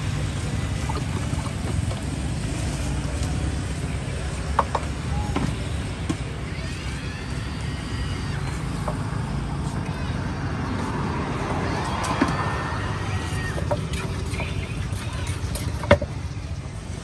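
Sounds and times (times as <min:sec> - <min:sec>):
faint voices: 0:00.0 - 0:17.0
passing traffic rumble: 0:00.0 - 0:17.0.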